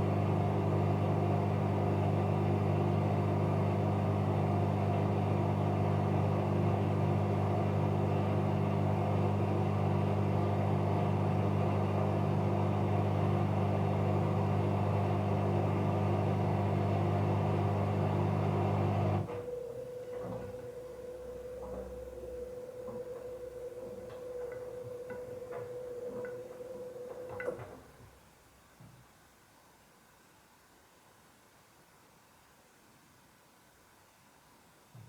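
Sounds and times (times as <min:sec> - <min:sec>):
washing machine spinning hum: 0:00.0 - 0:28.6.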